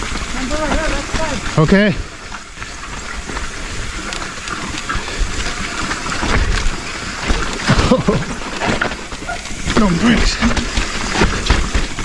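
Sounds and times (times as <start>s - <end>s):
bike knocking and rattling: 0.0s - 12.0s
bike tyres rolling through mud: 0.0s - 12.0s.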